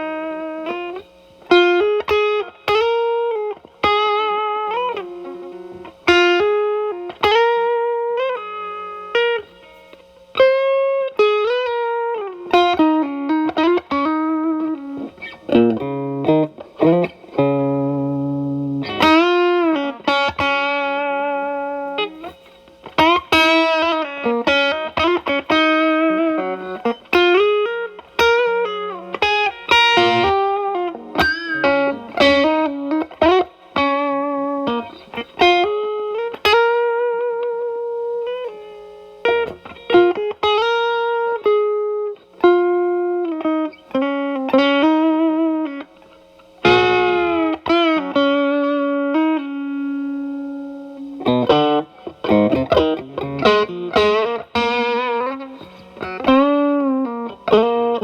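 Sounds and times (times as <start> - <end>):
distorted electric guitar lead: 0.0 - 58.0.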